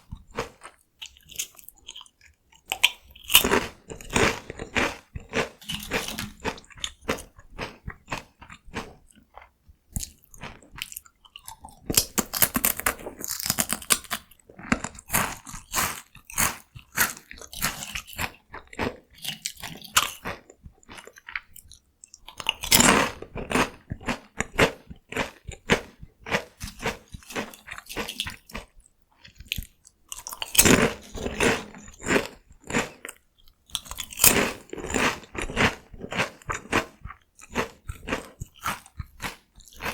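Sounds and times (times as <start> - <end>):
chewing crunchy corn snacks: 0.0 - 39.9.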